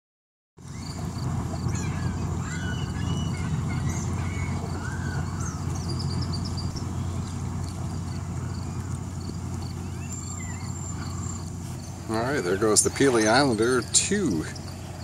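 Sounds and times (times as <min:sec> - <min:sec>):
birds chirping and squawking: 0:00.6 - 0:15.0
steady low rumble: 0:00.6 - 0:15.0.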